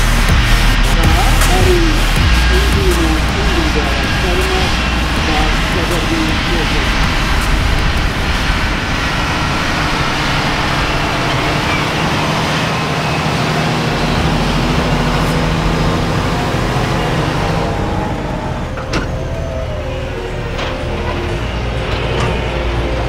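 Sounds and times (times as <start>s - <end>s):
diesel tractors running under load: 0.0s - 23.0s.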